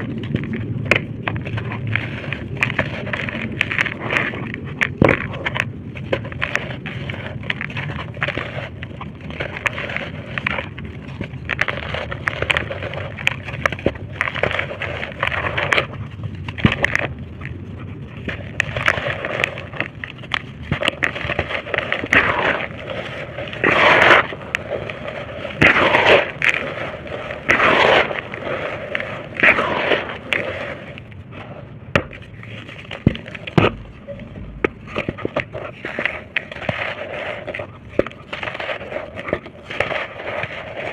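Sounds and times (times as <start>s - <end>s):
brick and dirt crumbling: 0.0s - 40.9s
loud crunches: 0.0s - 40.9s.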